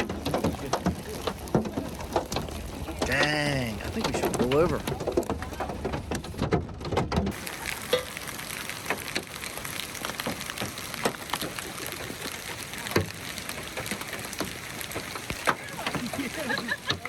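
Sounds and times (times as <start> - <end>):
rain falling on a vehicle: 0.0 - 17.0.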